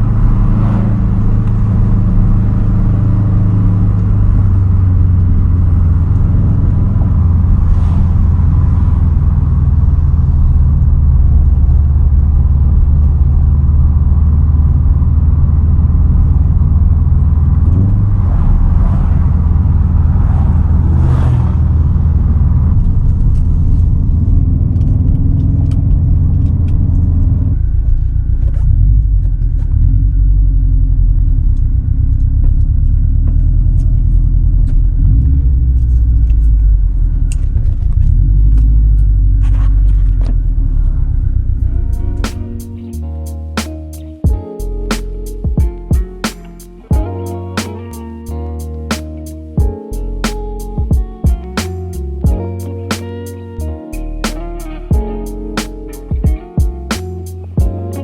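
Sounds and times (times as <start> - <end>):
car exhaust rumble: 0.0 - 58.0.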